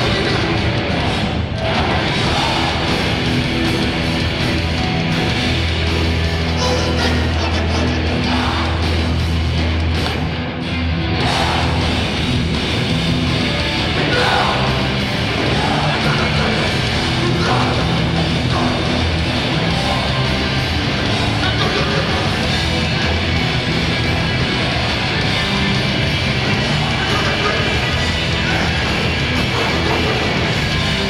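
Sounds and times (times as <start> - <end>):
shouted vocals: 0.0 - 3.6, 6.2 - 9.2, 11.1 - 12.4, 13.7 - 31.0
punk band playing live: 0.0 - 31.0.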